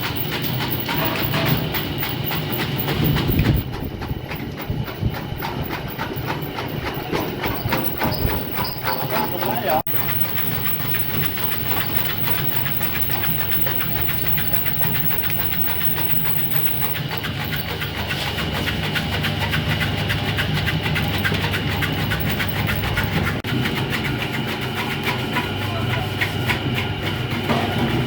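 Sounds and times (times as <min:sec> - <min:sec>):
cutter clatter: 0:00.0 - 0:23.4.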